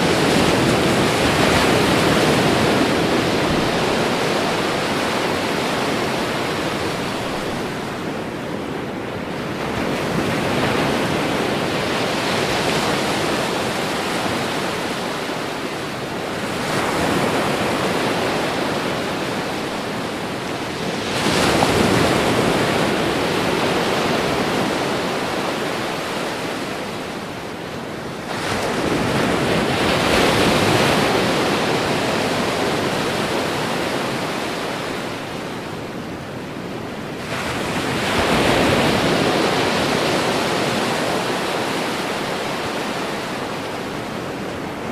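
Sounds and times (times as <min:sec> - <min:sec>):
ocean surf breaking on shore: 0:00.0 - 0:44.9.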